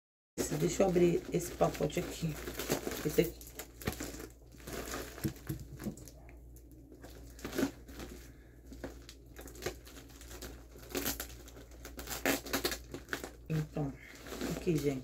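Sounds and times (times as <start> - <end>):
plastic package crinkling: 0.4 - 15.0.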